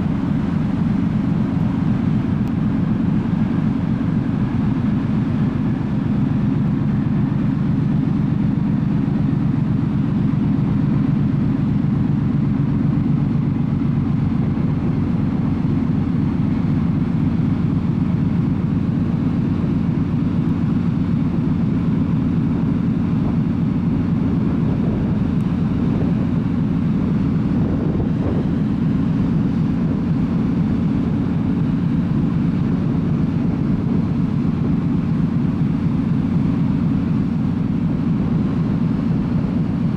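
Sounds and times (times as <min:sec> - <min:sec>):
ship engines droning: 0:00.0 - 0:39.9.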